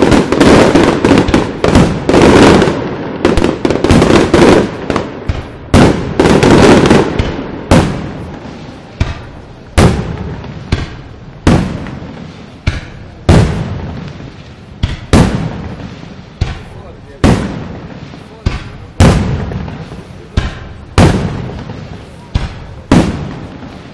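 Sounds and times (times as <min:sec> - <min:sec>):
firework bangs echoing: 0:00.0 - 0:23.9.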